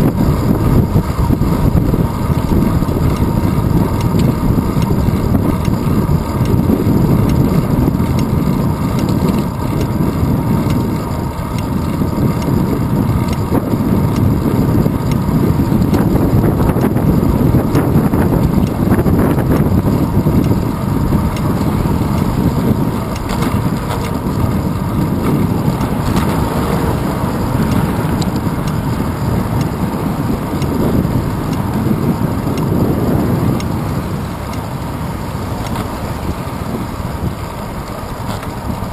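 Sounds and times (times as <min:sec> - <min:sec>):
bicycle road rumble on asphalt: 0:00.0 - 0:38.9
wind buffeting: 0:00.0 - 0:38.9.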